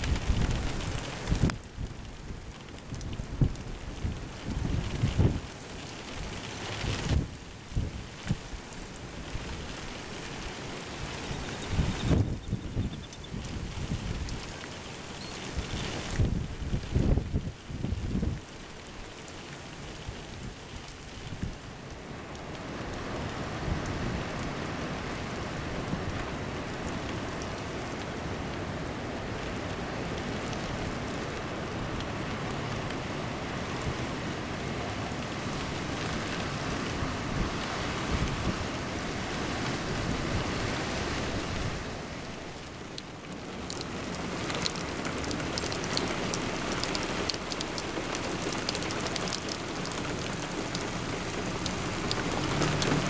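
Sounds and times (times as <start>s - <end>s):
rain on wet ground: 0.0s - 53.0s.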